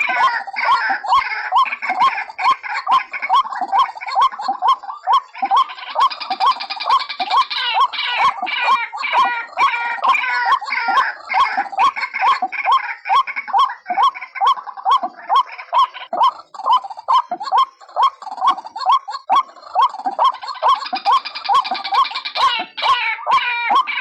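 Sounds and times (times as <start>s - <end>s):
higher bird chatter: 0.0s - 24.0s
waterhen call with hooked notes: 0.0s - 24.0s.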